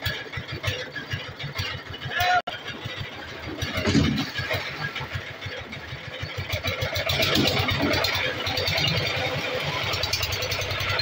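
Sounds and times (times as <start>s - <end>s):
engine driving a winch: 0.0s - 11.0s.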